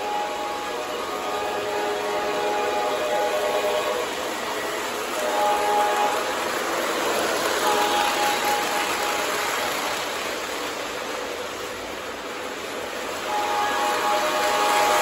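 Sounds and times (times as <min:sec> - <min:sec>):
model trains rolling on track: 0:00.0 - 0:15.0.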